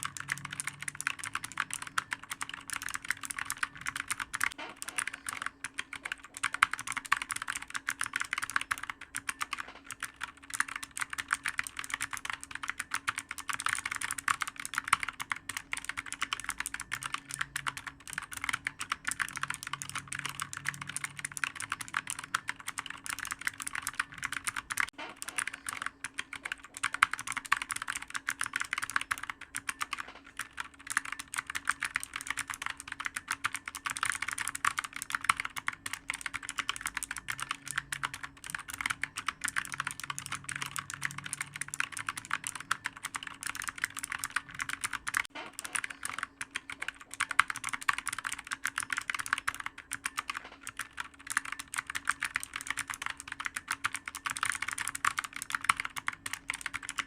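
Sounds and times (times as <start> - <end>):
fast typing on clicky keyboard: 0.0 - 57.0.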